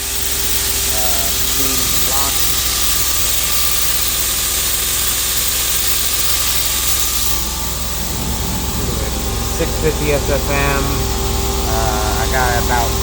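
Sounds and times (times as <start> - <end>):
machine low hum: 0.0 - 13.0
milling machine hissing: 0.0 - 13.0.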